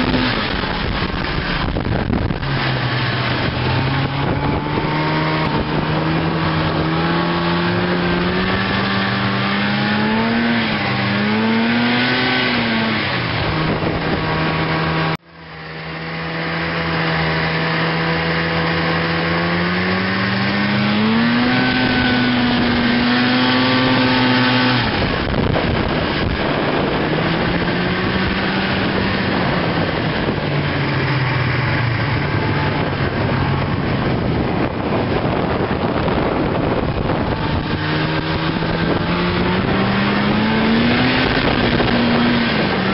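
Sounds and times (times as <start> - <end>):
snowmobile engine running: 0.0 - 42.9
wind and track noise: 0.0 - 42.9.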